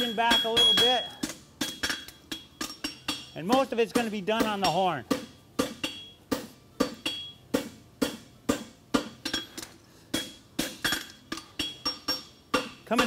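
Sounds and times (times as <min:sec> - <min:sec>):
hammer striking horseshoe on anvil: 0:00.0 - 0:13.0.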